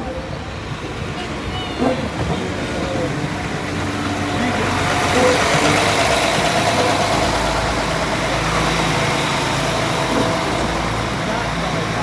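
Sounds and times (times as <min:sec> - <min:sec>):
diesel engine drone: 0:00.0 - 0:12.0
train wheels rumbling on rails: 0:00.0 - 0:12.0.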